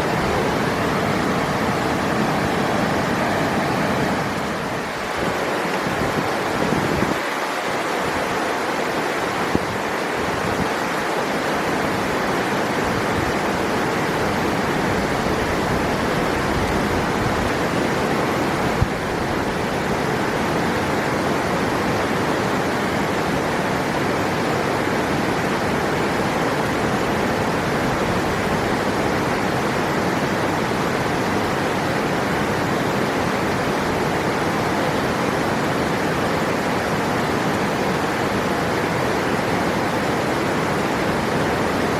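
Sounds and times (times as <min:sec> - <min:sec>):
river water flowing: 0:00.0 - 0:41.9.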